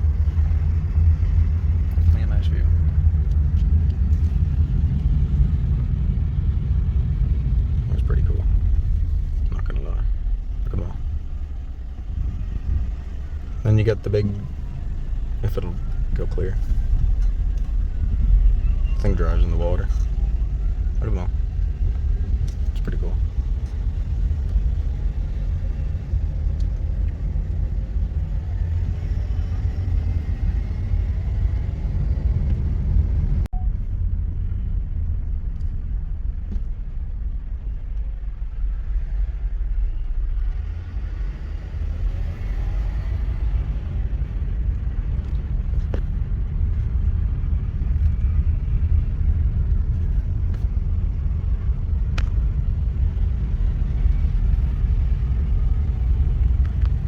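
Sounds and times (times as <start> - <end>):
car driving rumble: 0.0 - 57.0.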